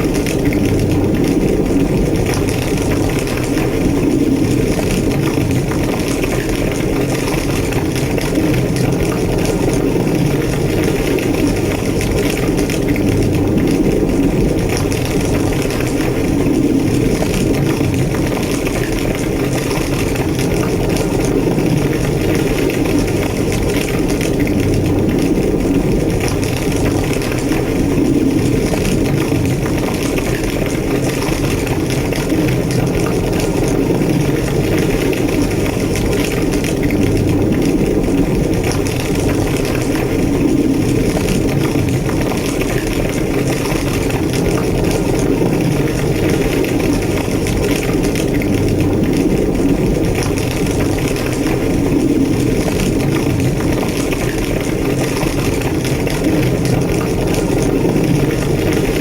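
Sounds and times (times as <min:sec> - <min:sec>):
building fire roaring: 0:00.0 - 0:59.0
fire crackles: 0:00.0 - 0:59.0.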